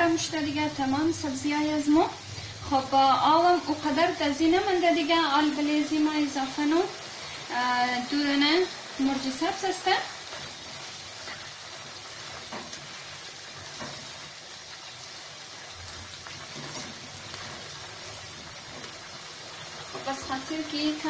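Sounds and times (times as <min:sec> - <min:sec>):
vegetables sizzling in a wok: 0:00.0 - 0:21.0.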